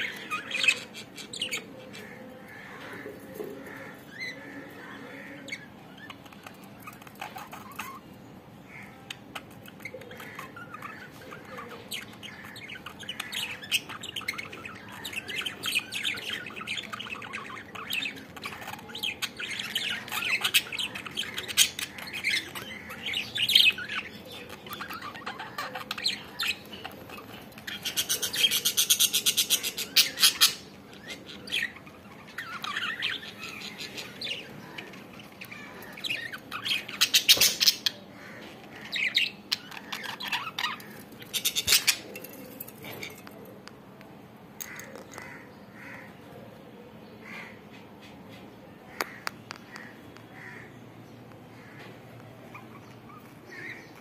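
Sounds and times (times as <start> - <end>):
budgerigars chirping and squawking: 0.0 - 43.3, 44.6 - 46.3, 47.2 - 54.0.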